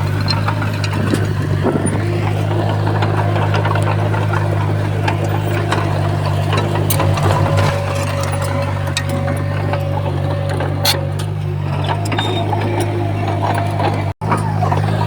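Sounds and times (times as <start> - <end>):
bulldozer diesel engine running: 0.0 - 15.0
metal clanks and clicks: 0.0 - 15.0.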